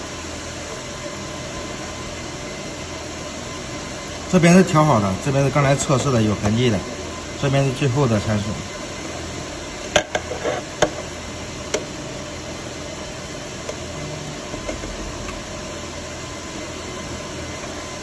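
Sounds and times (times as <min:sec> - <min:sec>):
running machinery hiss: 0:00.0 - 0:18.0.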